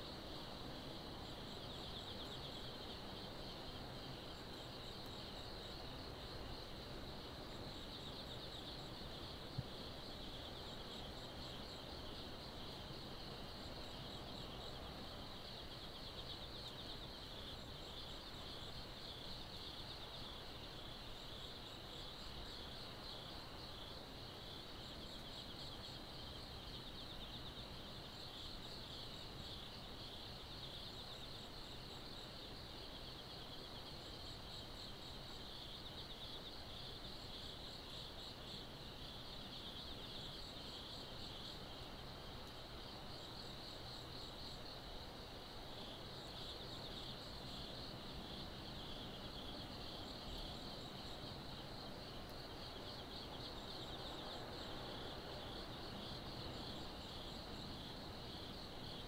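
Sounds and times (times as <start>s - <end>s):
higher insect chirps: 0.0s - 59.0s
insect trill: 0.0s - 59.0s.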